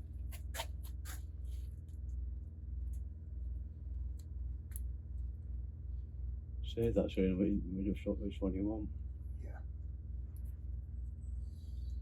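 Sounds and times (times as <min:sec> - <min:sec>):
low throbbing hum: 0:00.0 - 0:00.4, 0:01.1 - 0:12.0.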